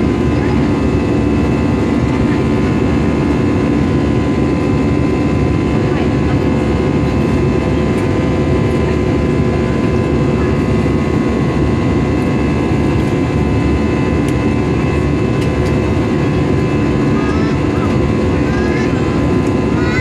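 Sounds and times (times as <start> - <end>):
airplane cabin engine rush: 0.0 - 20.0.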